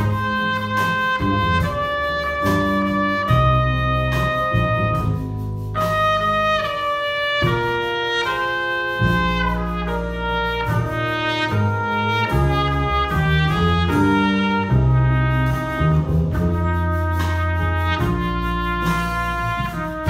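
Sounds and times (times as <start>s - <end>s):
big band playing a slow ballad: 0.0s - 20.0s
trumpet solo long held notes: 0.0s - 20.0s.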